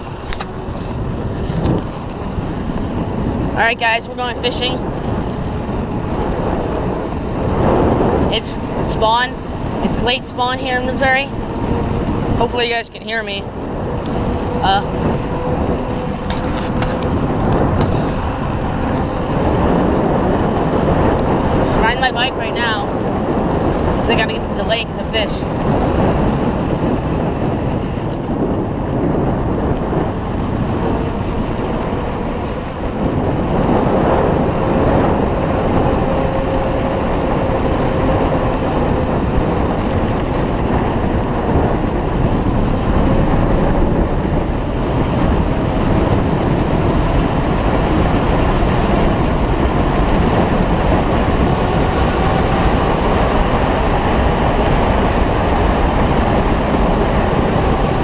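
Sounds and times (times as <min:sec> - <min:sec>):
road and tyre noise: 0:00.0 - 0:58.0
wind buffeting microphone: 0:00.0 - 0:58.0.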